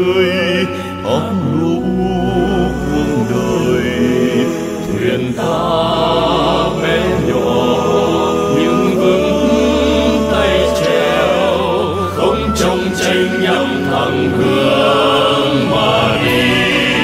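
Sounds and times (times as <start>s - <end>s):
choir holding long notes: 0.0s - 17.0s.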